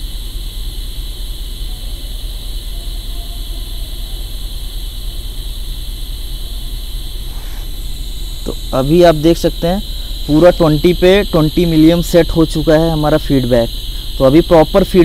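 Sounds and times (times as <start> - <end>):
high-pitched hiss and ringing: 0.0 - 15.0
low hum: 0.0 - 15.0.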